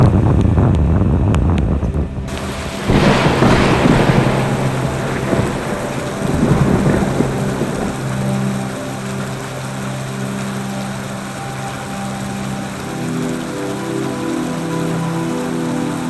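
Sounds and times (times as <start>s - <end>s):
rain hiss: 2.2s - 16.0s.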